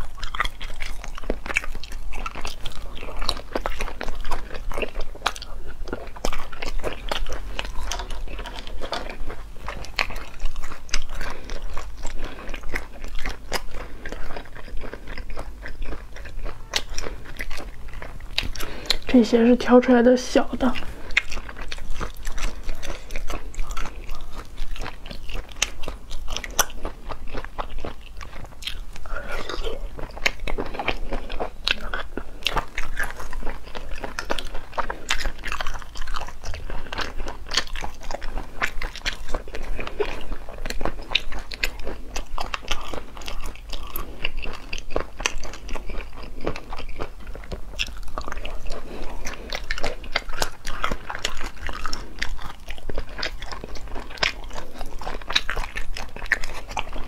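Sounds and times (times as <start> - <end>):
chewing and biting: 0.0 - 57.0.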